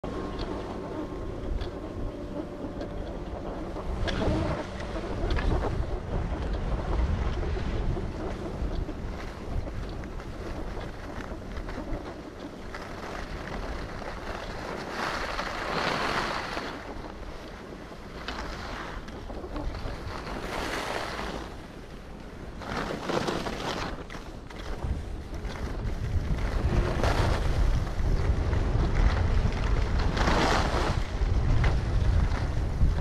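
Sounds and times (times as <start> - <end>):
wind buffeting microphone: 0.0 - 33.0
skis scraping over snow: 0.1 - 33.0.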